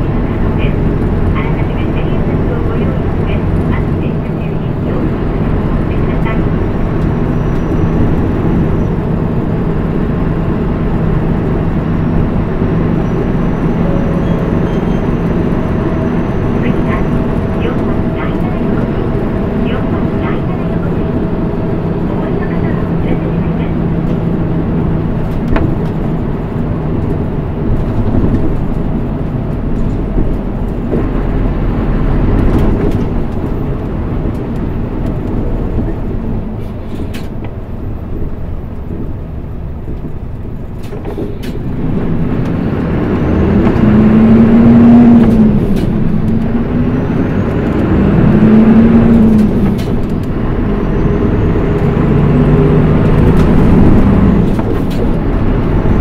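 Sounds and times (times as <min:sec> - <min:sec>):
bus diesel engine: 0:00.0 - 0:56.0
road and body noise: 0:00.0 - 0:56.0.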